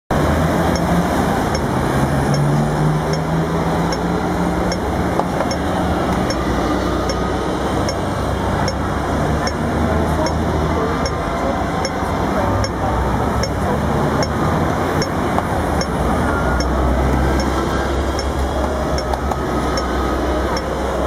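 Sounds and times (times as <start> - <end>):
bus engine running loudly: 0.1 - 21.0
crossing signal ticking: 0.1 - 21.0
dense street traffic passing: 0.1 - 21.0.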